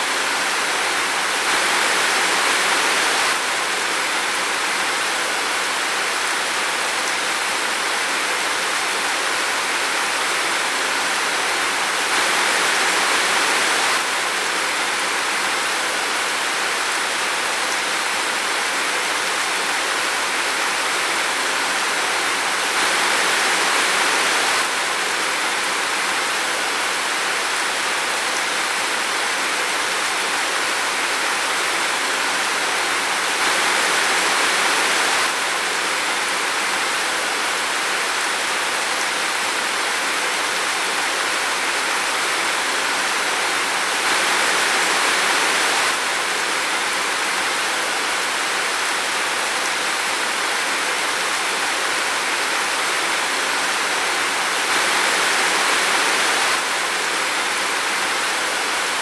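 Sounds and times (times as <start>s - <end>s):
steady rain in a forest: 0.0s - 59.0s.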